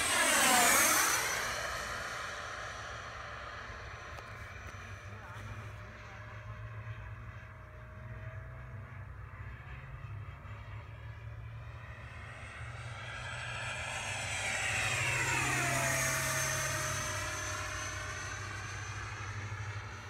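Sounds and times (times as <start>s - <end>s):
model jet whine flyby: 0.0s - 20.0s.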